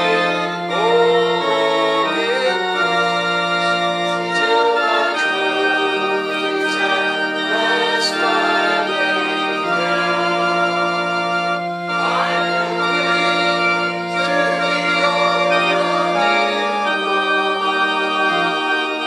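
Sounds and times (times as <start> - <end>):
organ playing sustained chords: 0.0 - 19.0.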